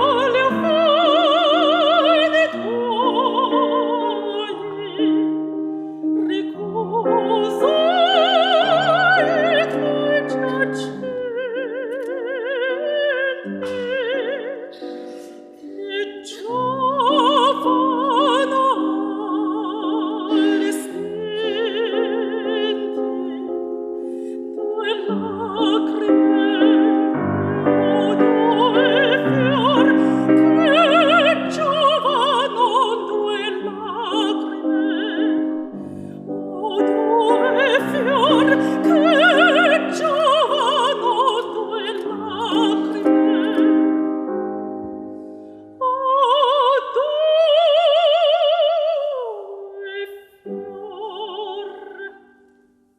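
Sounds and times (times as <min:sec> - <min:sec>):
operatic woman singing: 0:00.0 - 0:44.0, 0:45.8 - 0:52.4
piano accompaniment: 0:00.0 - 0:48.2.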